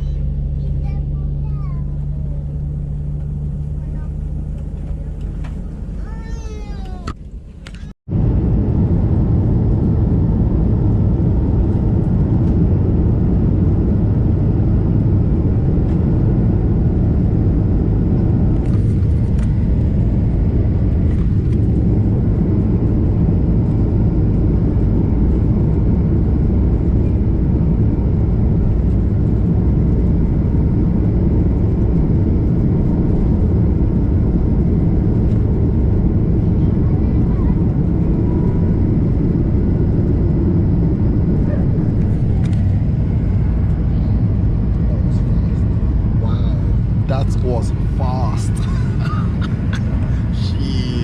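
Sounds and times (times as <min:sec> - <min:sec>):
jet engines rumbling in cabin: 0:00.0 - 0:51.0.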